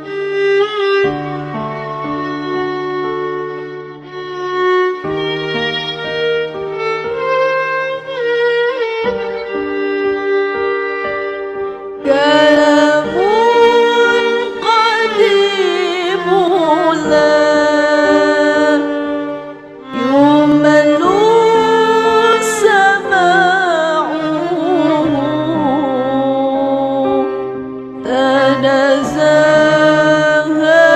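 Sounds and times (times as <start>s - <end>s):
sustained string chords: 0.0s - 30.9s.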